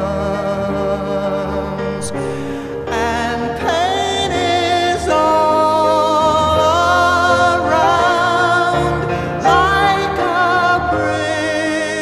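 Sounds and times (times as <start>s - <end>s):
person singing long notes: 0.0s - 12.0s.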